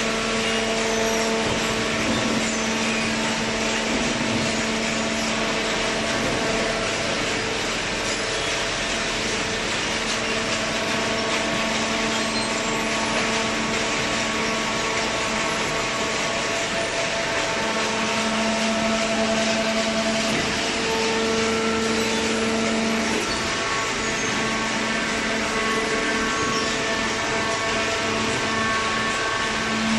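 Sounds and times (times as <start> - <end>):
hydraulic baler machine hum: 0.0 - 29.9.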